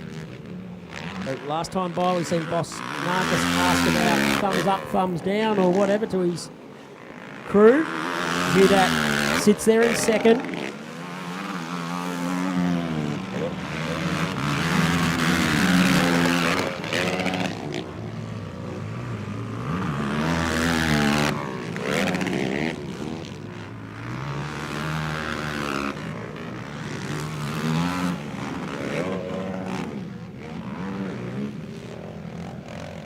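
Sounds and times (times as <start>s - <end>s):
quad bike engines revving: 0.0s - 33.0s.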